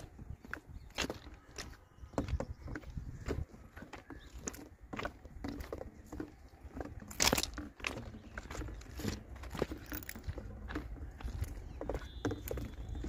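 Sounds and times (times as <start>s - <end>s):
footsteps crunching on stones: 0.0s - 13.0s.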